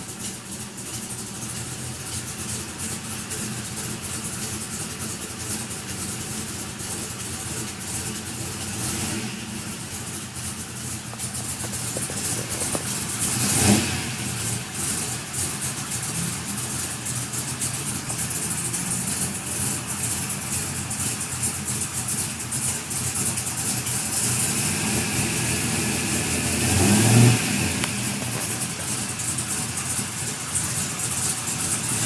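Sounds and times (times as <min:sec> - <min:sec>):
car engine running: 0:00.0 - 0:32.0
light engine ticking: 0:00.0 - 0:32.0.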